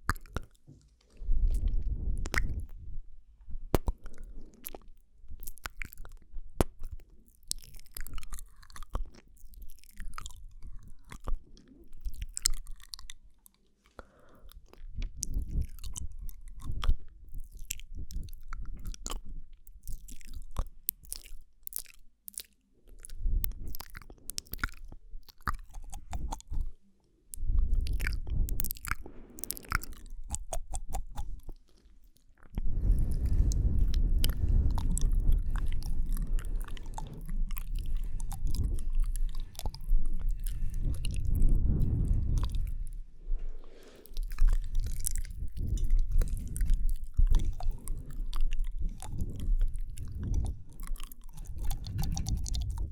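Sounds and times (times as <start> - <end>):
wet mouth clicks and smacks: 0.0 - 2.8, 3.7 - 52.9.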